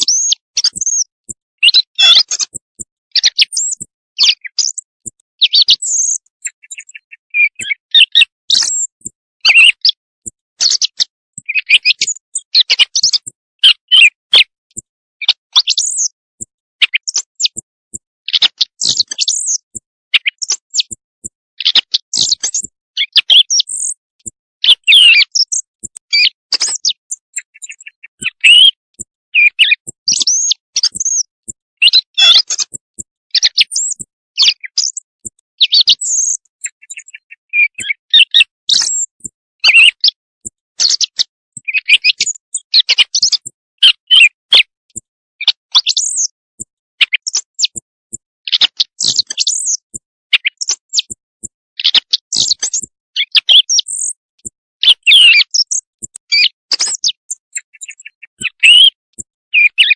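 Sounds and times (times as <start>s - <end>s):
quail calls chirping and whistling: 0.0s - 59.0s, 59.6s - 59.9s.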